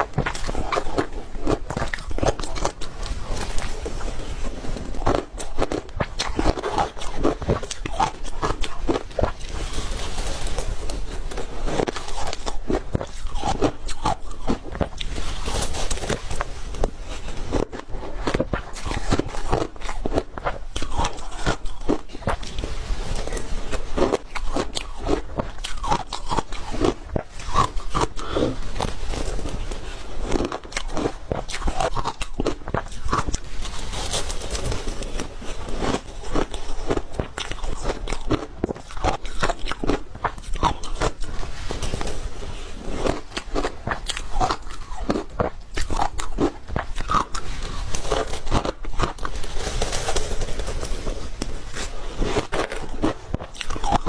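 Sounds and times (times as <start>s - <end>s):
ice crunching between teeth: 0.0s - 54.0s.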